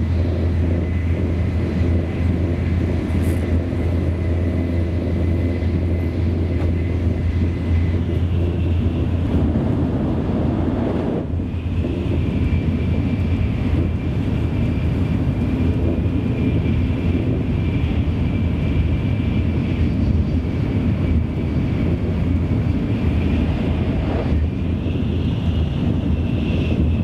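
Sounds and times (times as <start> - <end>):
train cabin low rumble: 0.0 - 27.0.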